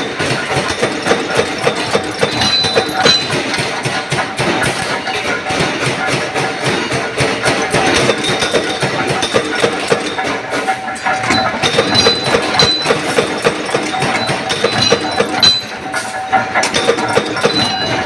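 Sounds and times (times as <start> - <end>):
power press clattering and knocking: 0.0 - 18.0.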